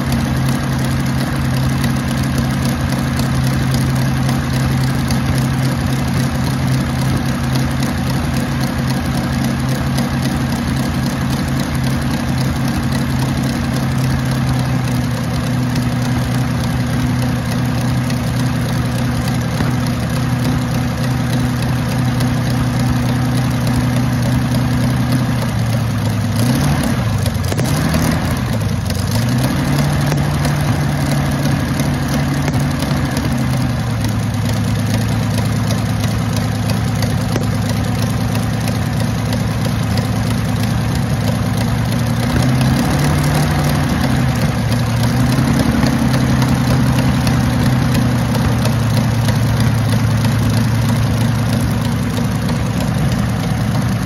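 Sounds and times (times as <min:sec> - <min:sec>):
aero engine idling: 0:00.0 - 0:54.0.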